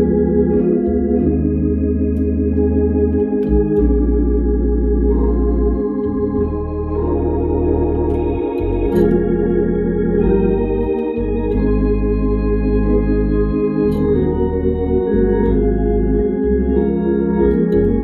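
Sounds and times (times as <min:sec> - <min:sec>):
organ playing gospel chords: 0:00.0 - 0:18.0.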